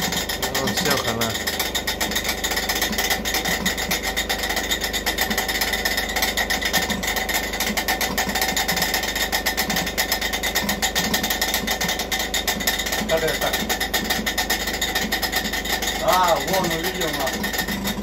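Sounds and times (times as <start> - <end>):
motor with rapid mechanical knocking: 0.0 - 18.0.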